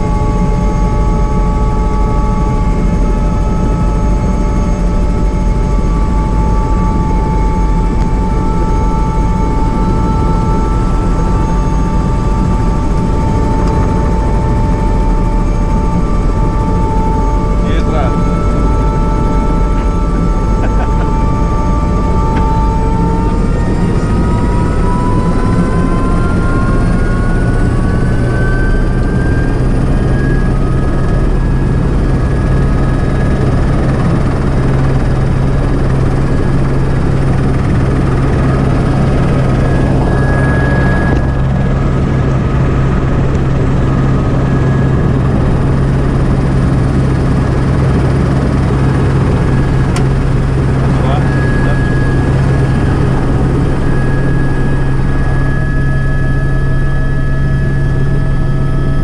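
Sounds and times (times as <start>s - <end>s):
helicopter rotor drone: 0.0s - 59.0s
helicopter turbine whine: 0.0s - 59.0s.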